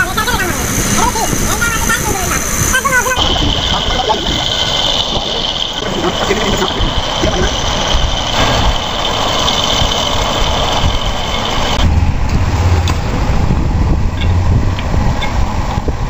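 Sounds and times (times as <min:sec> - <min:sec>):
lathe cutting whine: 0:00.5 - 0:16.0
lathe low hum: 0:00.6 - 0:16.0.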